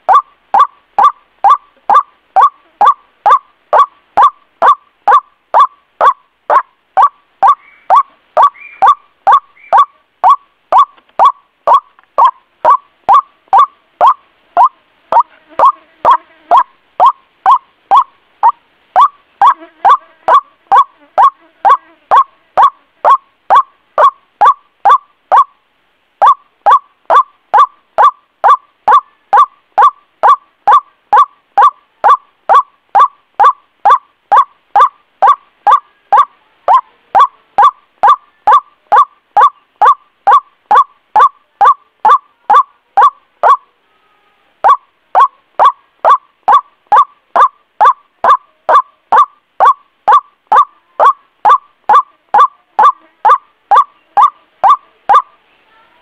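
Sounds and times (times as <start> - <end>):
bird calling fast repeated notes: 0.0 - 25.6, 26.2 - 43.6, 44.6 - 55.3.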